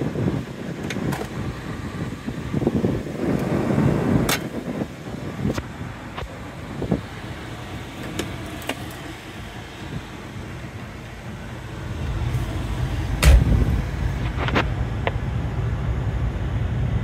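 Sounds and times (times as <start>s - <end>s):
low rumble: 1.3s - 17.0s.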